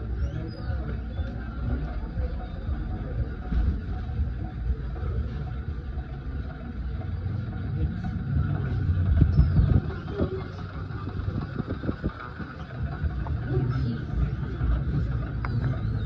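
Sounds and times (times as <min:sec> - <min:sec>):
ceiling fan bearing rumble: 0:00.0 - 0:16.0.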